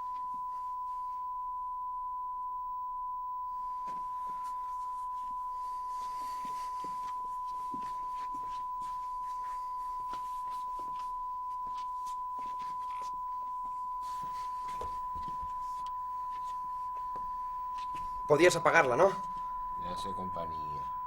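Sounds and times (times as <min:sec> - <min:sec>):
steady electronic tone: 0:03.4 - 0:21.0.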